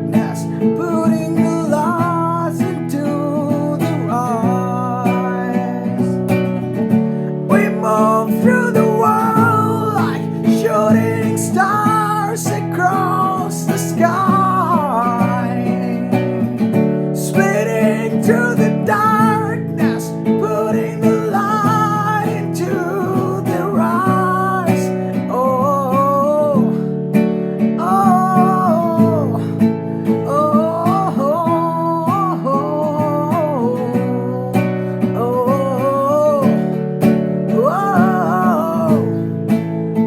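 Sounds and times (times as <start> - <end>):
strummed acoustic guitar: 0.0 - 40.0.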